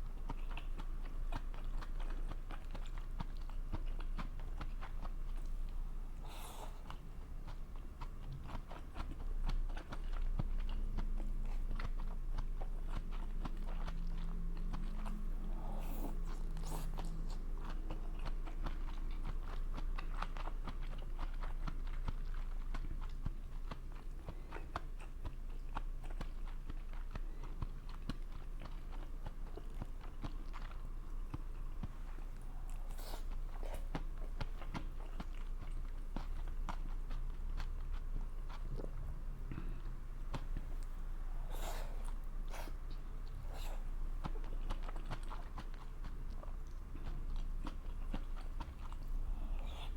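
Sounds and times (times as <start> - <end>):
low steady hum: 0.0 - 49.9
person chewing and biting food: 0.0 - 49.9.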